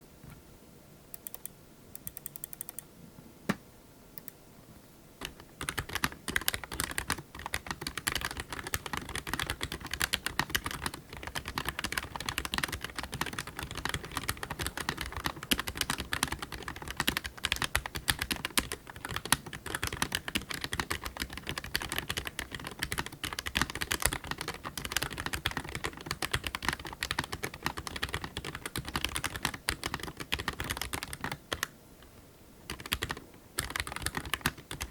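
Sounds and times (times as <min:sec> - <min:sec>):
mechanical keyboard typing: 0:01.2 - 0:02.8, 0:05.2 - 0:31.7, 0:32.7 - 0:34.9.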